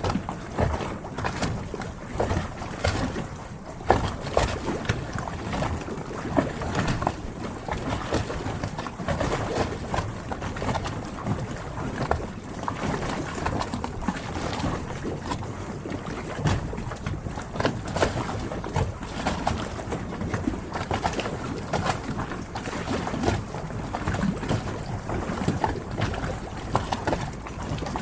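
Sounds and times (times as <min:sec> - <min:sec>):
water lapping against boat hulls: 0:00.0 - 0:28.0.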